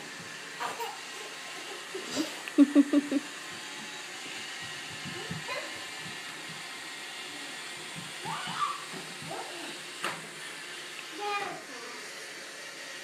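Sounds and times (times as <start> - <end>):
robot vacuum whirring: 0.0 - 13.0.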